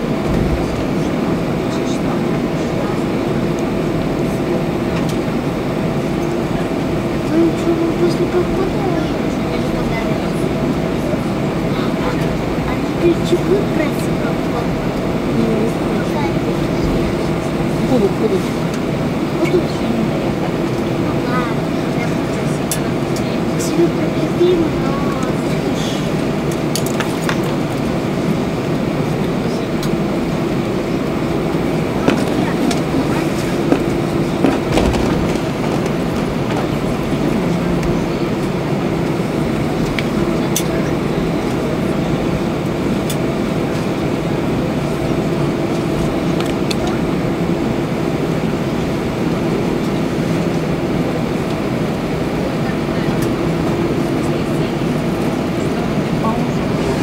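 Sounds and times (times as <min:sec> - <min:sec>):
air conditioning hum: 0:00.0 - 0:57.0
aircraft engines idling: 0:00.0 - 0:57.0.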